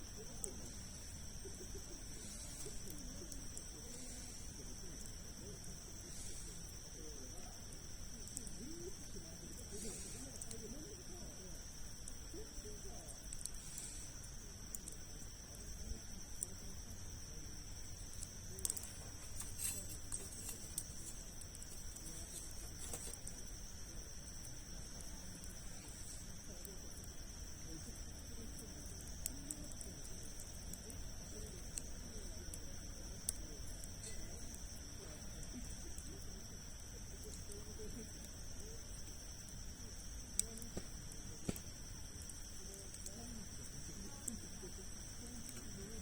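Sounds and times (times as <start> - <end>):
campfire crackling: 0.0 - 46.0
fire popping: 0.0 - 46.0
high insect trill: 0.0 - 46.0.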